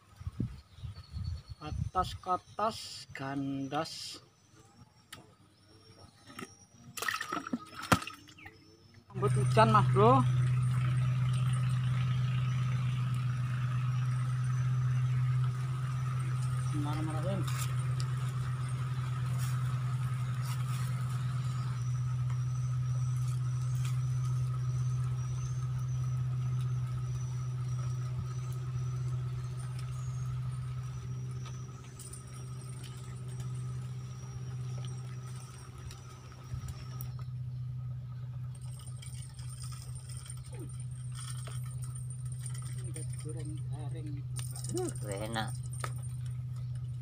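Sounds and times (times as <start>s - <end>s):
faint high whine: 0.0s - 47.0s
low mechanical hum: 0.0s - 47.0s.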